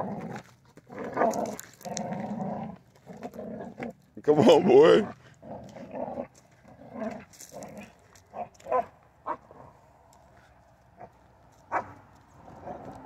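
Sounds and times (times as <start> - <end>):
puppy growling: 0.0 - 9.8, 11.0 - 13.0.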